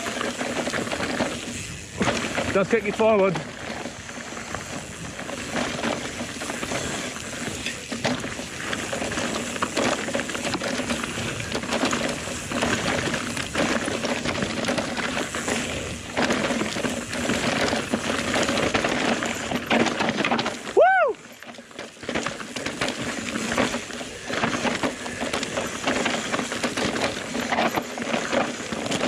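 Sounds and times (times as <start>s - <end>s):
bike clattering: 0.0s - 29.0s
tyres crunching over rocks: 0.0s - 29.0s.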